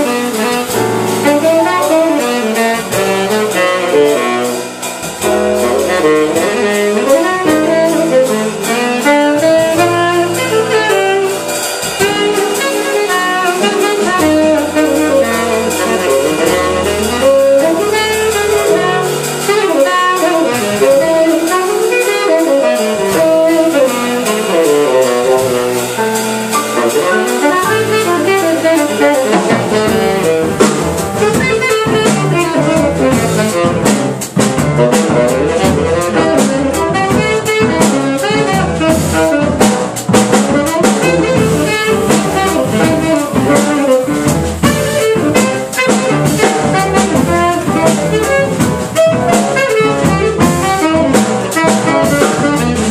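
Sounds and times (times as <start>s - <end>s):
double bass: 0.0s - 52.9s
drum kit: 0.0s - 52.9s
saxophone melody: 0.0s - 52.9s.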